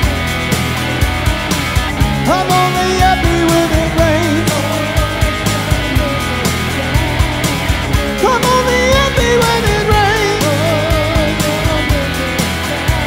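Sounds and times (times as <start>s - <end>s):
bending lead guitar melody: 0.0s - 13.0s
live rock band playing: 0.0s - 13.0s.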